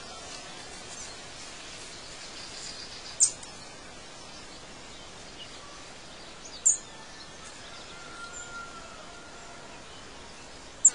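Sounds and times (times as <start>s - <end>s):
birds calling: 0.0s - 10.9s
steady background noise: 0.0s - 10.9s.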